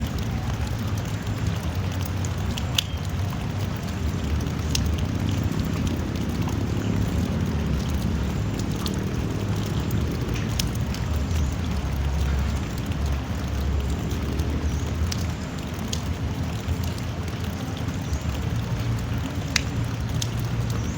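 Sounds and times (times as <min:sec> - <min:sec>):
low rumble: 0:00.0 - 0:20.9
rain hissing: 0:00.0 - 0:20.9
sharp water drips: 0:00.0 - 0:20.9.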